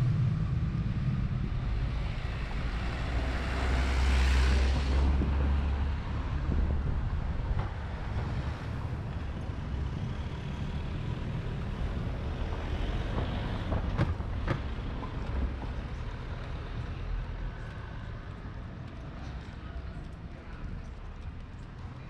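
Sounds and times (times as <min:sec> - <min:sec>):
low street rumble: 0:00.0 - 0:22.0.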